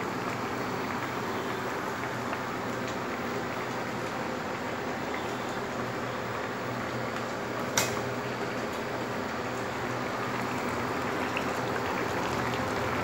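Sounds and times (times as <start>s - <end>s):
curry bubbling: 0.0s - 13.0s.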